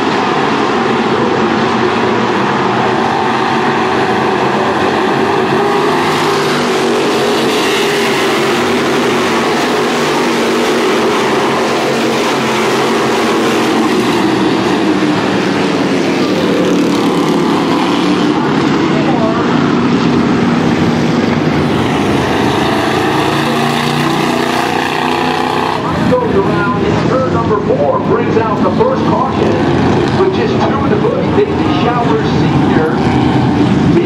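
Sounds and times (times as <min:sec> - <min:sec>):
race car engines: 0:00.0 - 0:34.0.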